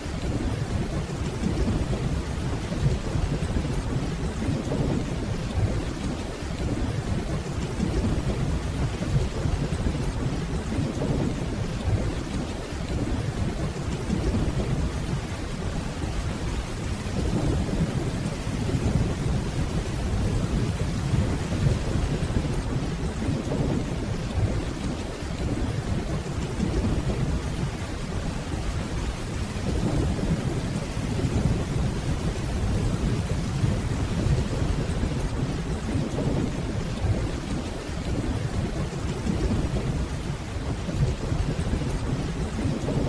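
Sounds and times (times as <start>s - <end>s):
rainfall: 0.0s - 43.0s.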